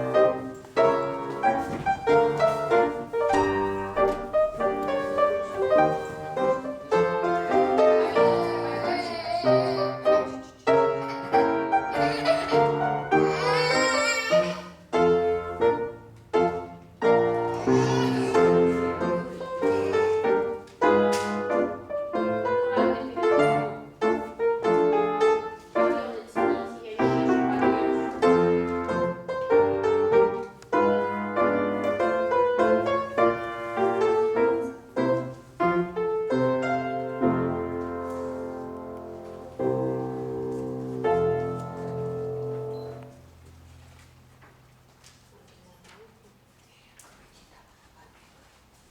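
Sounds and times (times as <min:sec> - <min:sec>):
piano notes in steady rhythm: 0:00.0 - 0:46.5.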